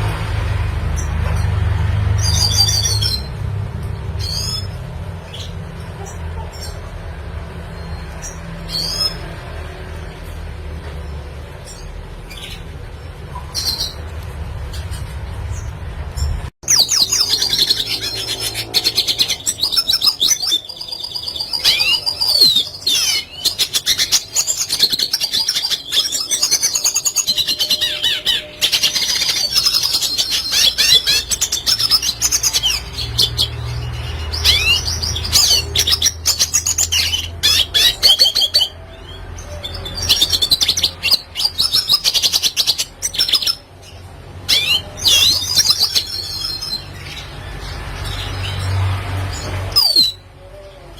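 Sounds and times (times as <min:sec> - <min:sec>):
bird singing twittering song: 0:07.5 - 0:50.9.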